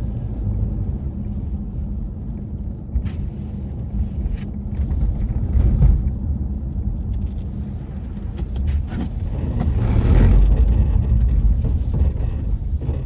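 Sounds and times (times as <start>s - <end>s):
street traffic: 0.0s - 13.0s
wind rumbling on microphone: 0.0s - 13.0s.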